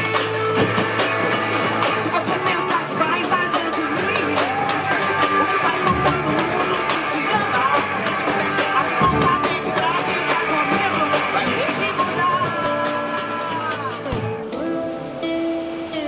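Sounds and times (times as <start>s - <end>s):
song with singing guitar and drums: 0.0s - 16.0s.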